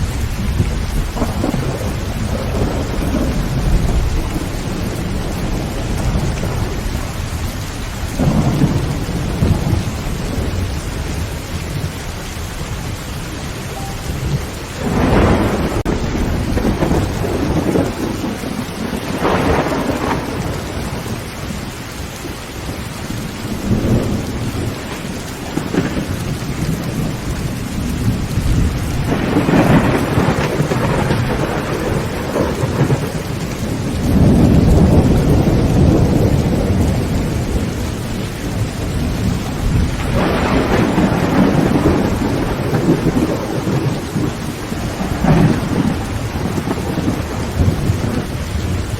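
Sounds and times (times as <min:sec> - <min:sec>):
heavy rain on a tin roof: 0:00.0 - 0:48.9
thunder rumbling: 0:00.0 - 0:48.9.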